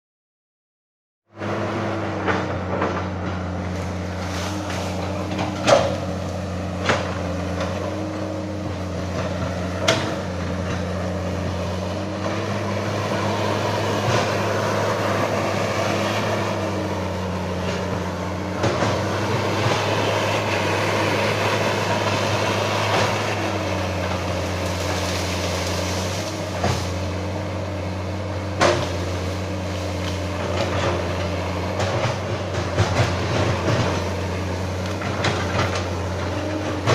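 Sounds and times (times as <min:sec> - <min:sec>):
excavator diesel engine running: 0:01.3 - 0:36.9.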